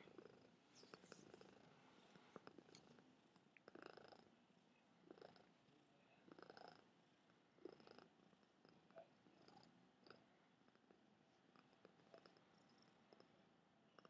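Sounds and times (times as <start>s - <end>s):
cat purring faintly: 0.0s - 14.0s.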